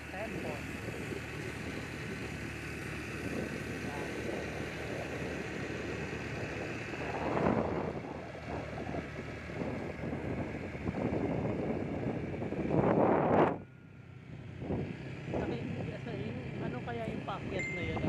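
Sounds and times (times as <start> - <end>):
outdoor rumble: 0.0 - 18.0
wind buffeting microphone: 0.0 - 18.0.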